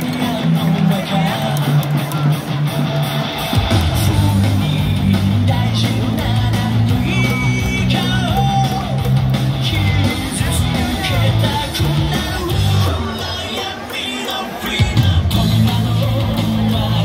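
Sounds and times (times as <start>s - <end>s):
rock song over loudspeakers: 0.0s - 17.0s.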